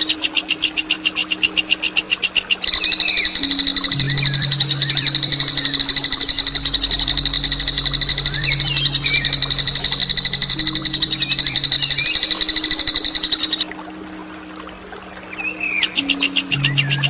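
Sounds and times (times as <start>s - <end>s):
bird chirps: 0.0s - 13.7s, 15.4s - 17.0s
songbird rolling trill: 0.0s - 13.7s.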